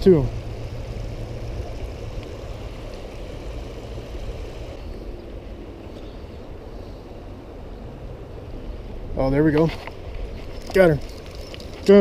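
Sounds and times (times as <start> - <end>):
wind rumbling on microphone: 0.2 - 12.0.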